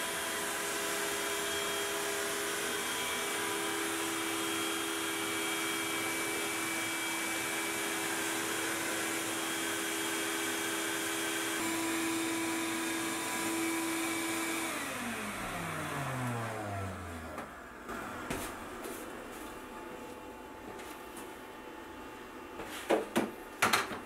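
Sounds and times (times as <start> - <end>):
router spinning high hum: 0.0 - 20.8.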